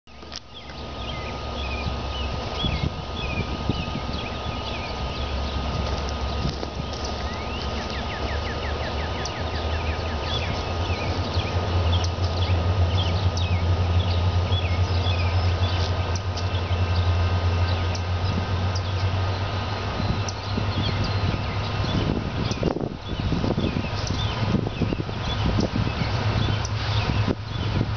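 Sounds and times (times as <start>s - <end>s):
diesel locomotive rumble: 0.1s - 27.9s
birds chirping and singing: 0.3s - 27.9s.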